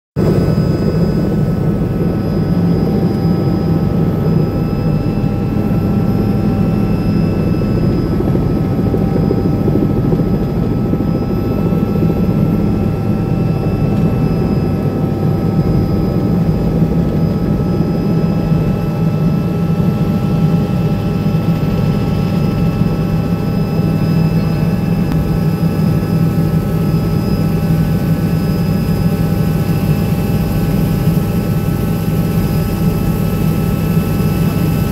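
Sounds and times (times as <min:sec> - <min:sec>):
helicopter engine and rotor drone: 0:00.2 - 0:34.9.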